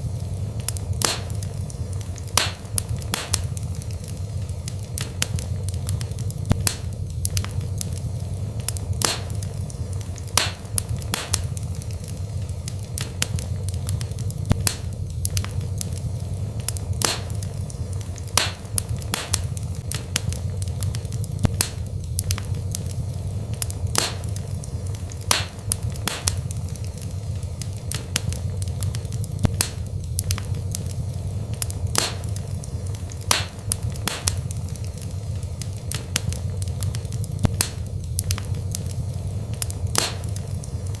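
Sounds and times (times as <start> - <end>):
steady low background noise: 0.0 - 41.0
wood fire crackling and popping: 0.0 - 41.0.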